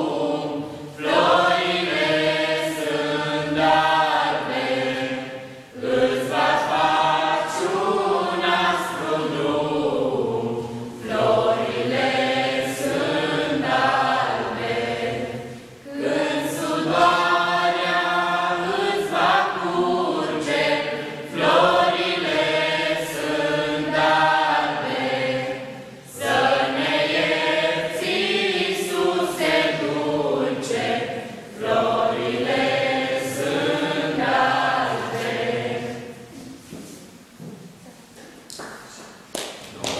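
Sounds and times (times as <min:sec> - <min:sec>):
young voices singing a carol: 0:00.0 - 0:37.4.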